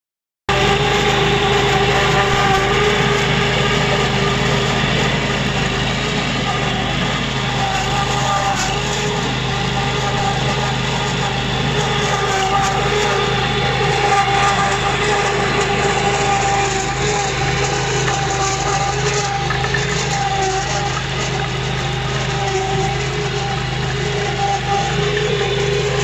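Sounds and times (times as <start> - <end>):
digging chain cutting soil: 0.5 - 26.0
engine running steadily: 0.5 - 26.0.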